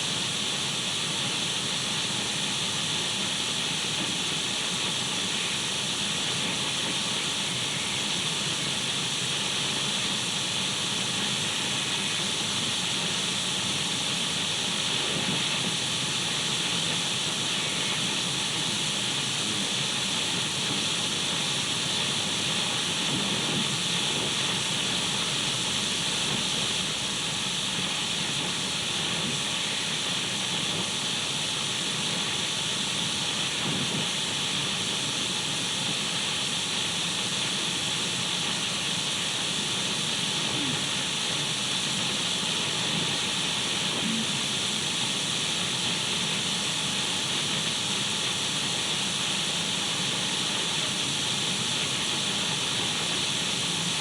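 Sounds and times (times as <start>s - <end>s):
radio static hiss: 3.0s - 54.0s.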